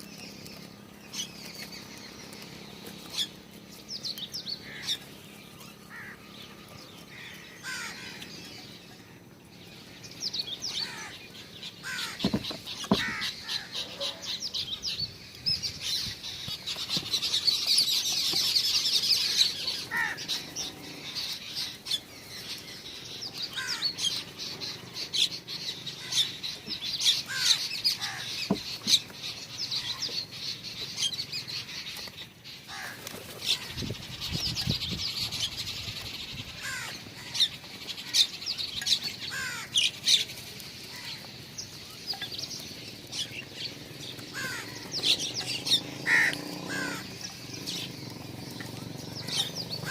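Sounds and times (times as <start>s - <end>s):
small birds chirping and twittering: 0.0s - 49.9s.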